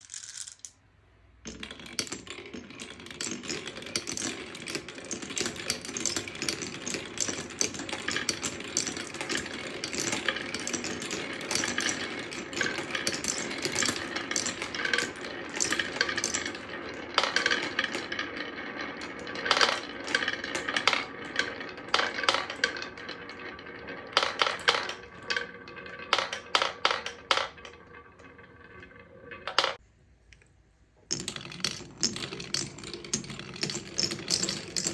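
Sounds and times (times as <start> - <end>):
marbles rattling down a wooden run: 0.0 - 0.7, 1.5 - 29.8, 31.1 - 34.9.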